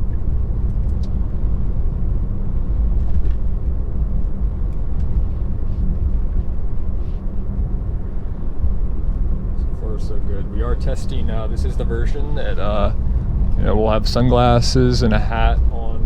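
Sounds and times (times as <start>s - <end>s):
road and tyre rumble in car: 0.0s - 16.0s.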